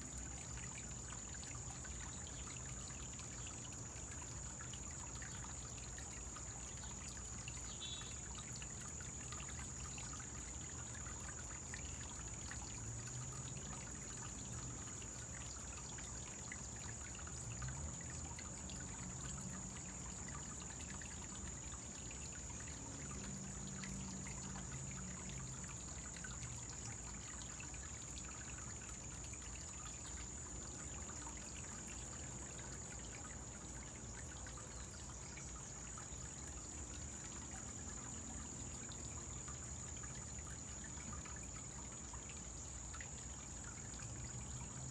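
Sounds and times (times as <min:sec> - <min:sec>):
small waterfall trickling: 0:00.0 - 0:44.9.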